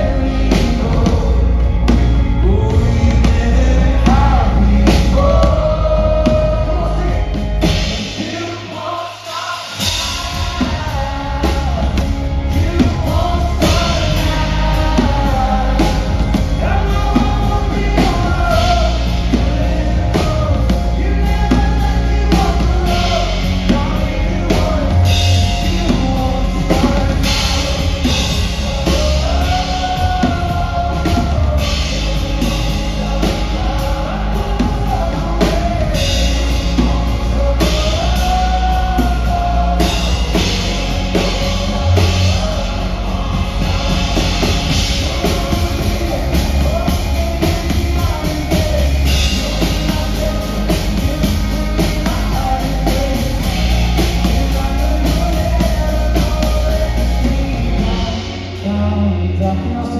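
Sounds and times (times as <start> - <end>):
bass: 0.0 - 59.9
drum kit: 0.0 - 59.9
wavering melodic lead line: 9.8 - 59.9.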